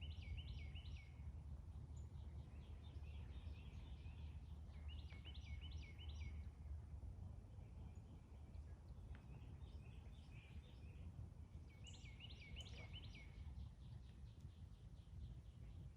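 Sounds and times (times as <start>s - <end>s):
faint low hum: 0.0s - 15.9s.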